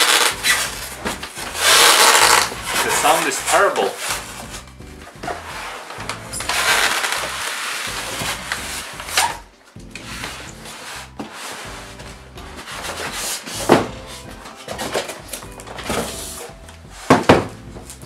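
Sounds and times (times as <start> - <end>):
plastic wrap and styrofoam rustling: 0.0 - 4.6, 5.2 - 16.5.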